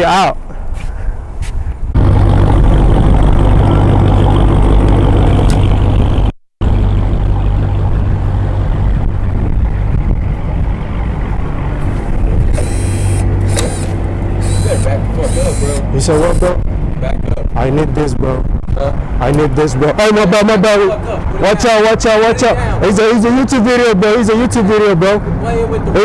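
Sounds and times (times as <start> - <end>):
traffic noise: 0.0 - 26.0.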